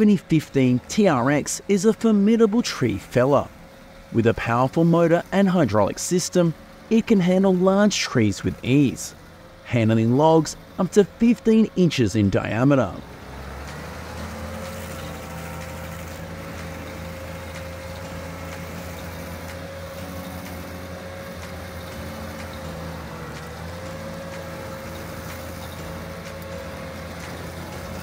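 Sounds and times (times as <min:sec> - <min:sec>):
cutter wheel grinding stump: 0:00.0 - 0:28.0
stump grinder engine drone: 0:00.0 - 0:28.0.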